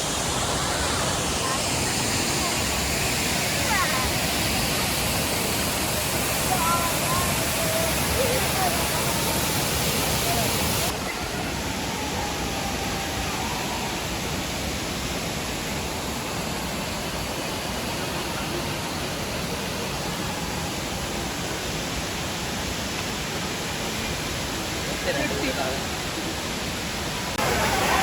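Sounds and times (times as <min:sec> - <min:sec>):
waterfall roar: 0:00.0 - 0:28.0.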